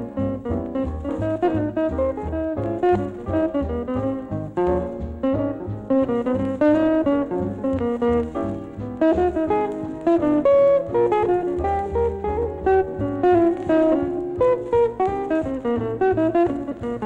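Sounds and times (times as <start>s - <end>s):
jazz guitar plucked notes: 0.0s - 17.0s.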